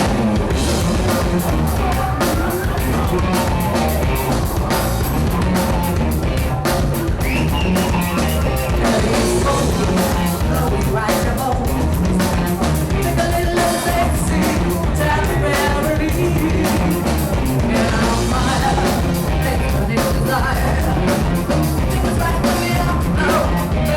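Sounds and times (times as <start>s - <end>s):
live band playing heavy rock: 0.0s - 23.9s
person singing: 0.0s - 23.9s.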